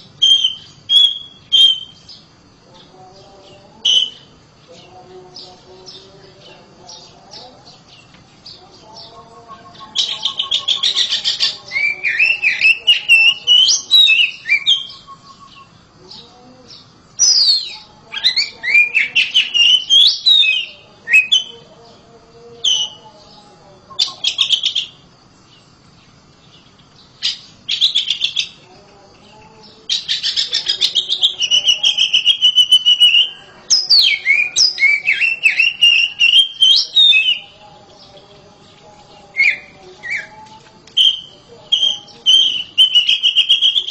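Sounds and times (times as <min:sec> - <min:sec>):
magpie-robin singing: 0:00.0 - 0:25.7, 0:26.4 - 0:43.9.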